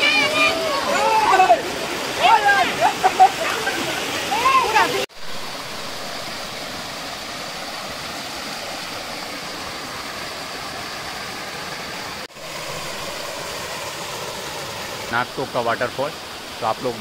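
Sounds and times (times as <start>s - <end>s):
water pouring into pool: 0.0s - 17.0s.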